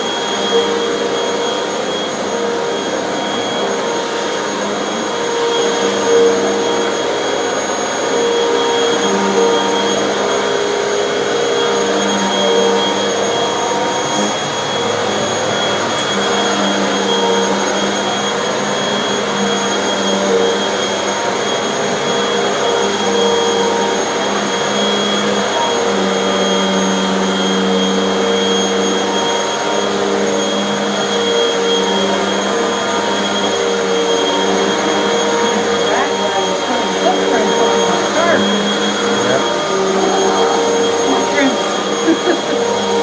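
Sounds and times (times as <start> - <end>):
vacuum cleaner on carpet: 0.0 - 43.0.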